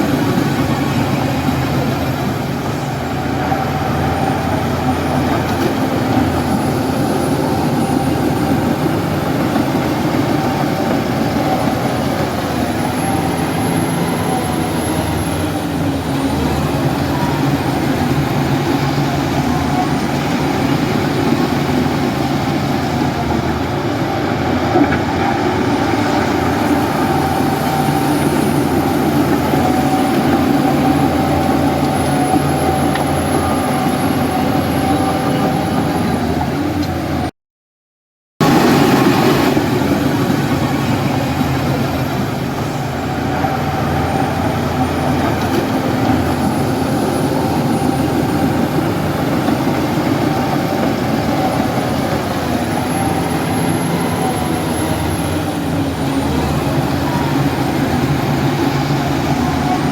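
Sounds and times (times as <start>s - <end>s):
diesel engine running: 0.0s - 37.3s, 38.4s - 59.9s.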